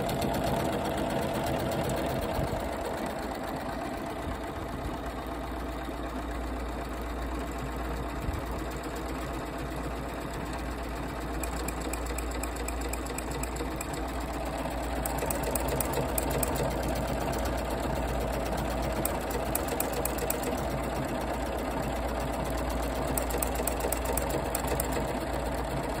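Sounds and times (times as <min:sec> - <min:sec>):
sewing machine running: 0:00.0 - 0:26.0.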